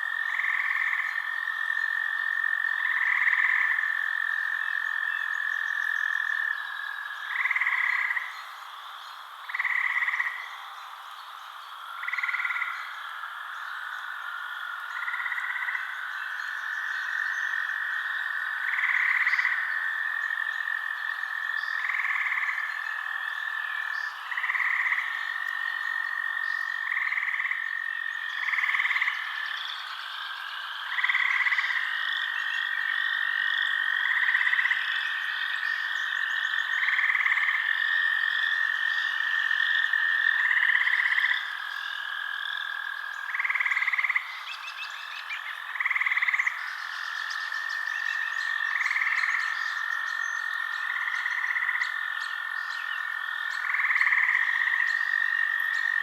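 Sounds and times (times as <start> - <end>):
frog croaking call: 0.0 - 56.0.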